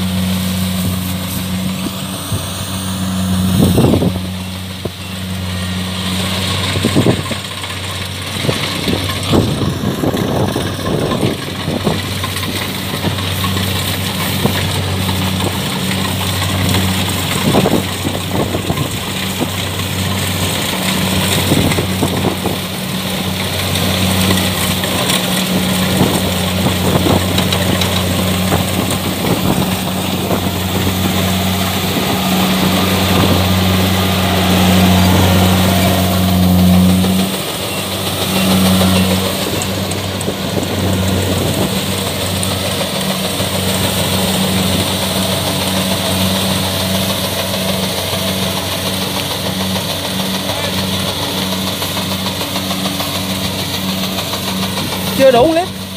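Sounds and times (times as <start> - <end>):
combine harvester engine hum: 0.0 - 55.9
machine rattles and knocks: 6.0 - 55.9.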